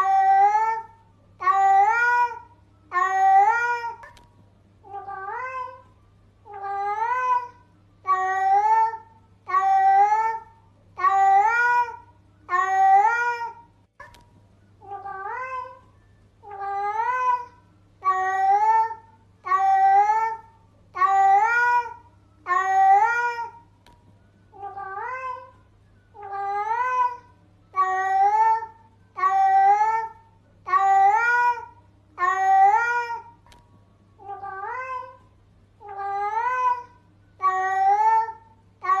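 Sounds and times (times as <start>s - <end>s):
cat meowing: 0.0s - 4.2s, 4.8s - 5.9s, 6.5s - 13.6s, 14.8s - 15.8s, 16.4s - 23.6s, 24.6s - 25.5s, 26.2s - 33.3s, 34.2s - 35.2s, 35.8s - 39.0s.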